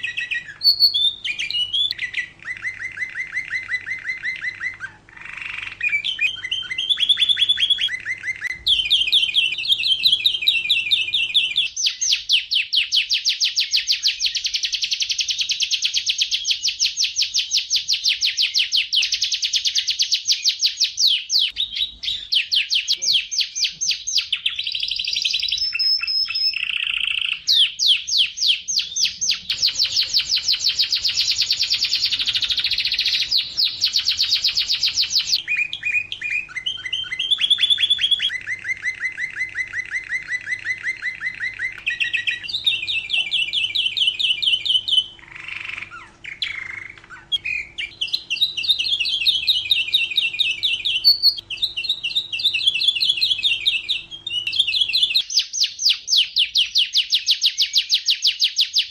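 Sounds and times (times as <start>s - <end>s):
canary singing trills: 0.0s - 58.9s.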